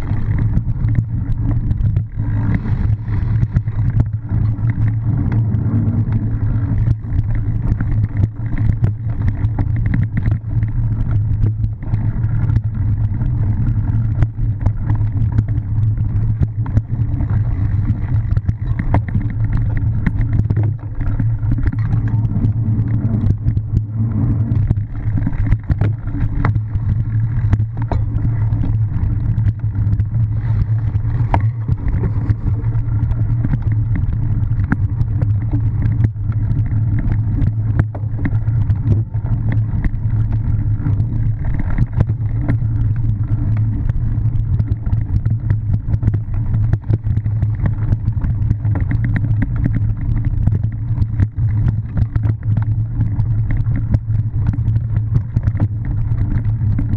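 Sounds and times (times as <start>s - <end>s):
bike rattling and knocking: 0.0s - 56.9s
wind and riding noise: 0.0s - 56.9s.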